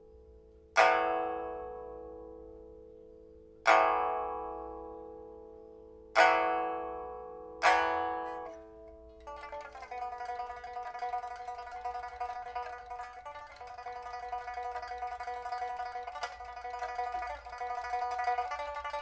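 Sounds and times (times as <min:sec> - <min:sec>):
pipa chords ringing: 0:00.8 - 0:19.0.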